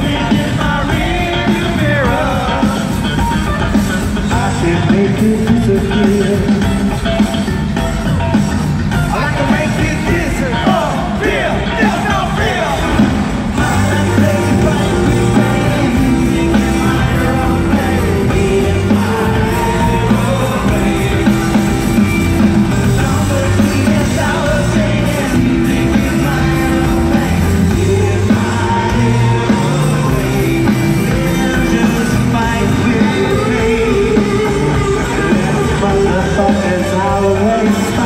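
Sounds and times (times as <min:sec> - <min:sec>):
bass guitar: 0:00.0 - 0:38.0
drums: 0:00.0 - 0:38.0
electric guitar: 0:00.0 - 0:38.0
person singing: 0:04.2 - 0:06.9, 0:09.0 - 0:38.0.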